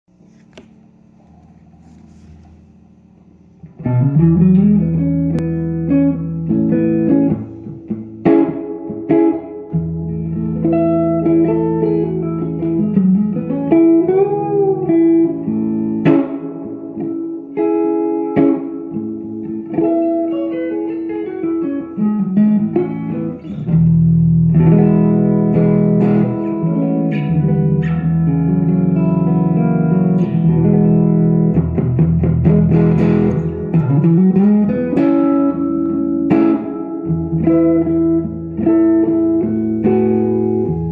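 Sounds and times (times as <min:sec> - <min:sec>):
electric guitar through amplifier: 0:00.3 - 0:40.9.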